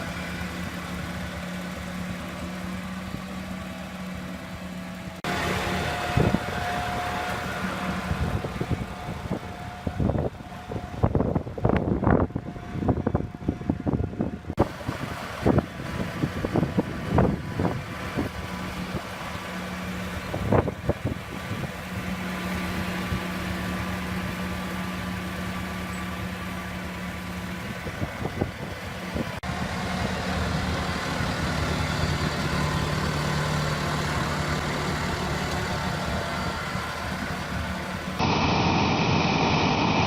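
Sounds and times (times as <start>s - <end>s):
farm machine engine running: 0.0s - 40.0s.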